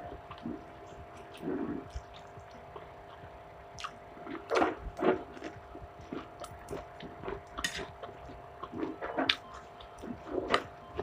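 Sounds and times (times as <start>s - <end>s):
faint steady hum: 0.0s - 11.0s
person chewing noodles: 0.0s - 11.0s.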